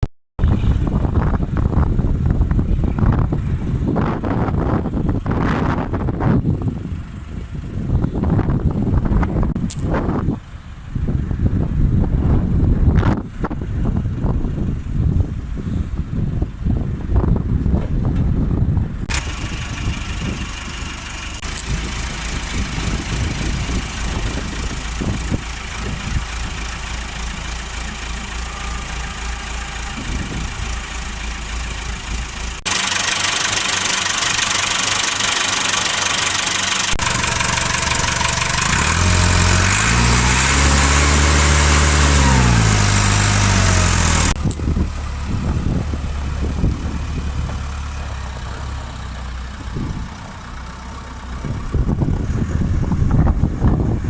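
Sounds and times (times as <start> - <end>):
diesel engine running and revving: 0.4 - 54.0.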